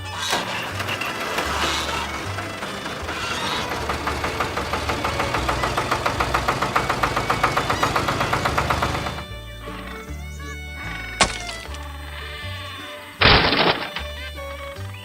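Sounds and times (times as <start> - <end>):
engine chugging: 0.0 - 12.4.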